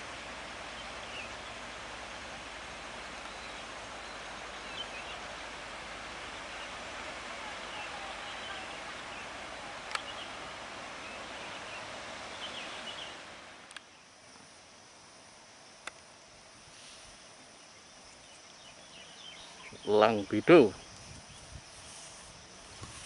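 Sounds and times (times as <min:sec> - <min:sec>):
outdoor rustling hiss: 0:00.0 - 0:23.0.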